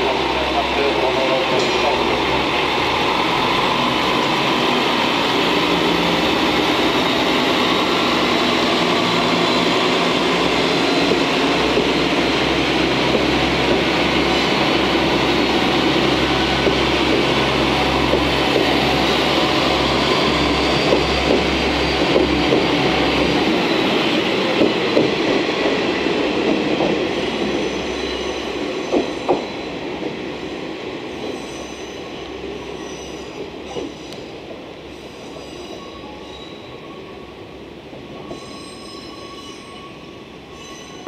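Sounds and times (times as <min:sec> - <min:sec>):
diesel railcar engines: 0:00.0 - 0:41.0
rail noise: 0:00.0 - 0:41.0.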